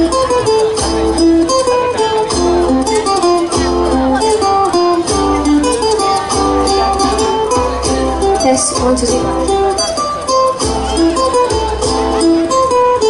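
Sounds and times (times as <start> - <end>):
guitar music over bass and beat: 0.0 - 13.0.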